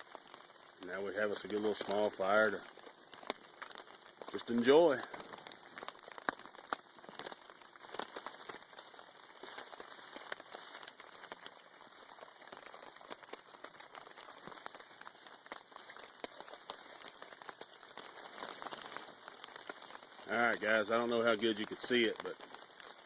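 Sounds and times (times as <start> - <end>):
campfire crackling: 0.0 - 23.0
rain falling on a tarp: 0.0 - 23.0.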